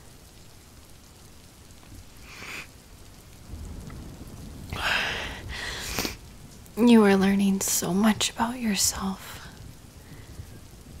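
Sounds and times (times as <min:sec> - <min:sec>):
rain pattering on a surface: 0:00.0 - 0:11.0.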